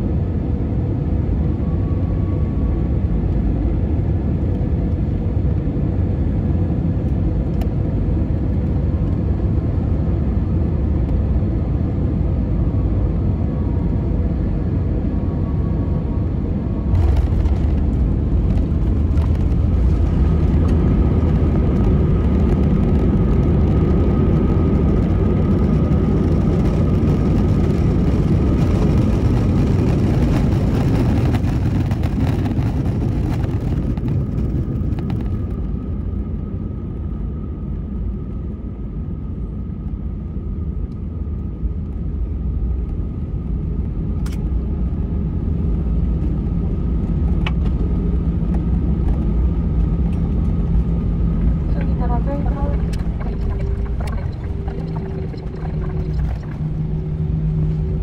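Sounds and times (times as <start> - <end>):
airliner cabin rumble on landing: 0.0 - 58.0.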